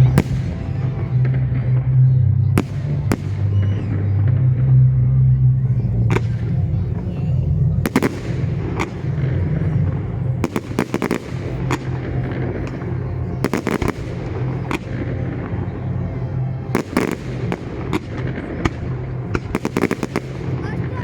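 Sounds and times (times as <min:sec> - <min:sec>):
low hum: 0:00.0 - 0:19.6
fireworks cracking and banging: 0:00.0 - 0:21.0.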